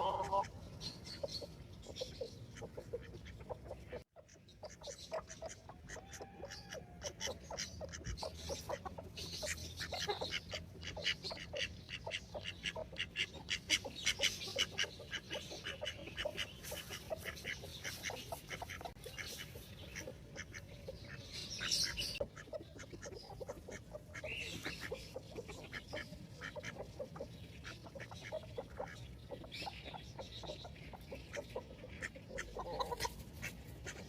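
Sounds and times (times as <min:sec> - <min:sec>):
hens clucking: 0:00.0 - 0:34.0
chicks peeping: 0:04.6 - 0:34.0.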